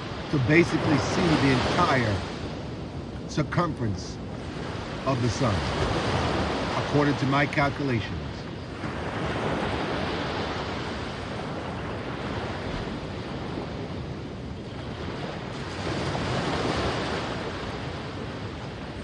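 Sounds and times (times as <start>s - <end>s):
waves breaking on beach: 0.0s - 19.0s
wind on microphone: 0.0s - 19.0s.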